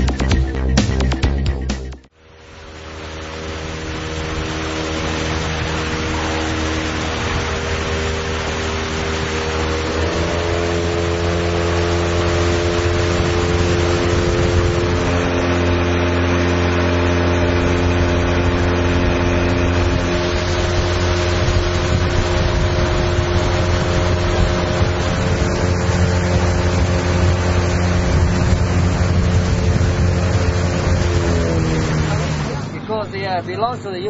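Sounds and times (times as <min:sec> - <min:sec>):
motorboat engine running: 0:00.0 - 0:34.0
wind and water hiss: 0:02.1 - 0:34.0.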